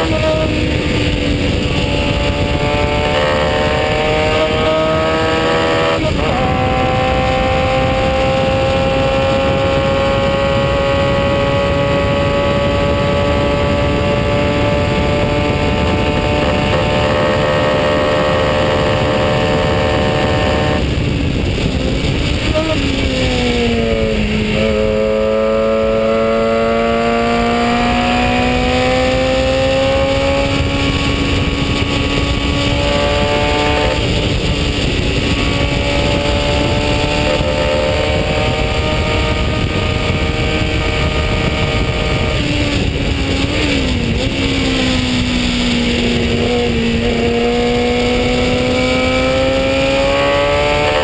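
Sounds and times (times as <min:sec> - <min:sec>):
racing car engine buzzing: 0:00.0 - 0:51.0
wind rushing: 0:00.0 - 0:51.0.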